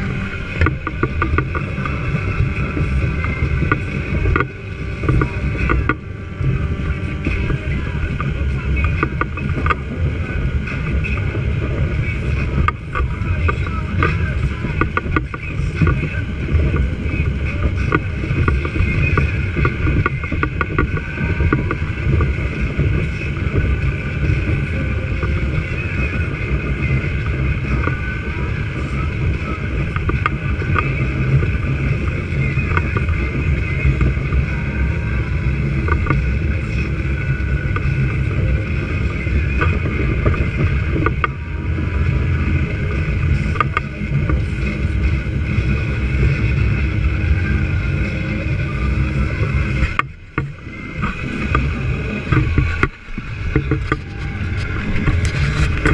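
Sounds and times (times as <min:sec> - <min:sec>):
outboard motor running: 0:00.0 - 0:55.9
water rushing past hull: 0:00.0 - 0:55.9.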